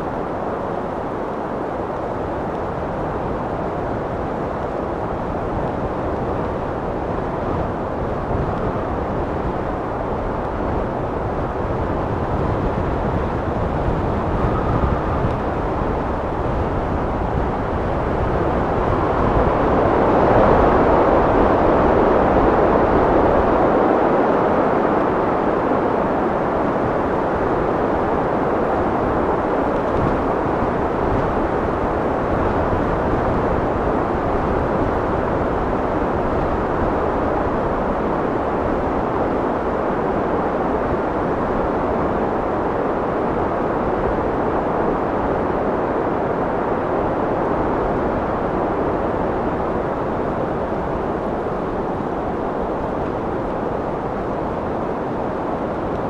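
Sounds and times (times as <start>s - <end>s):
wind blowing: 0.0s - 56.0s.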